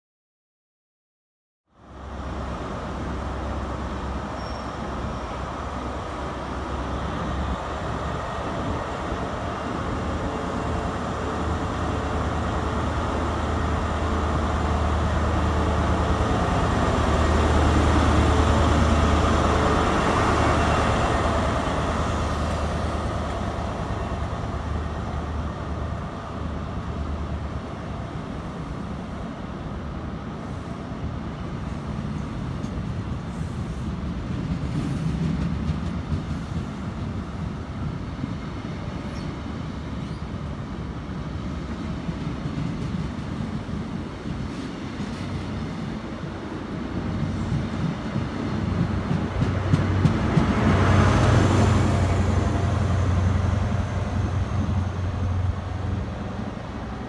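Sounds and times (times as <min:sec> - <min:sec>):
diesel train engine drone: 0:01.7 - 0:57.0
train wheels on rails: 0:02.5 - 0:57.0.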